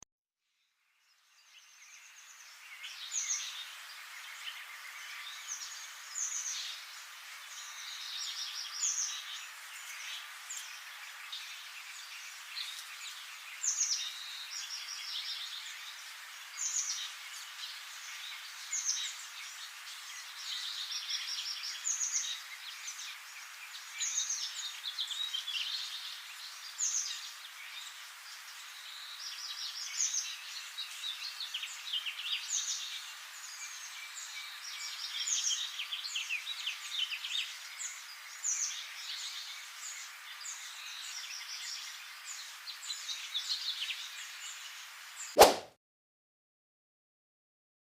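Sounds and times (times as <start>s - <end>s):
wild birds singing: 0.8s - 45.4s
steady background hiss: 1.0s - 45.4s.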